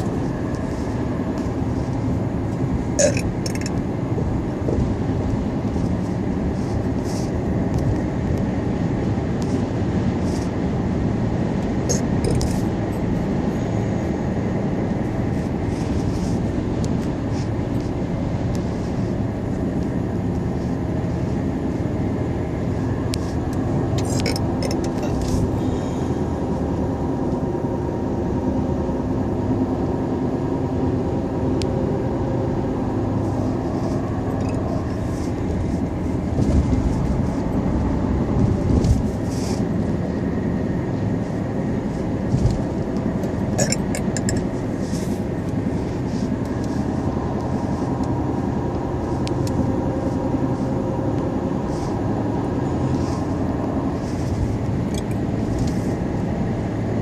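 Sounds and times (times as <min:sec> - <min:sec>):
low rumble of moving vehicle: 0:00.0 - 0:57.0.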